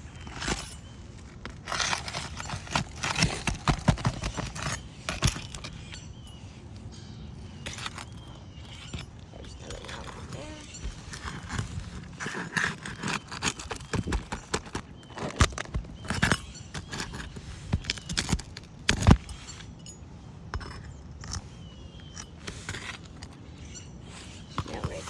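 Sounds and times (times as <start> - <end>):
roofing tool scraping and knocking: 0.0 - 6.2, 7.6 - 23.4.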